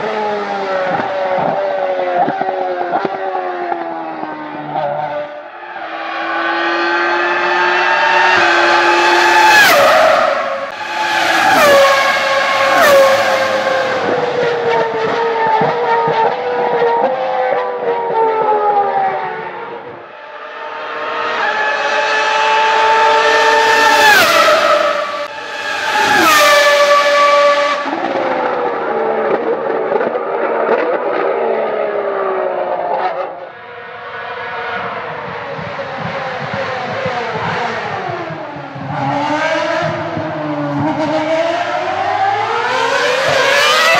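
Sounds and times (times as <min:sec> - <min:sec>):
racing car engine downshifting: 0:00.0 - 0:43.9.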